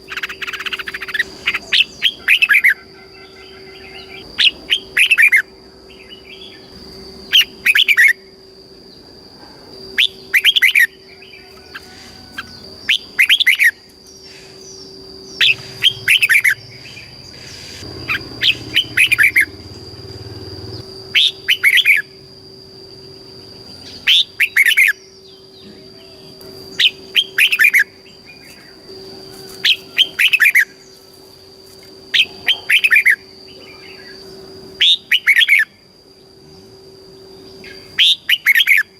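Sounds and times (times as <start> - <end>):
bird singing: 0.0 - 38.9
faint steady high whine: 0.0 - 38.9.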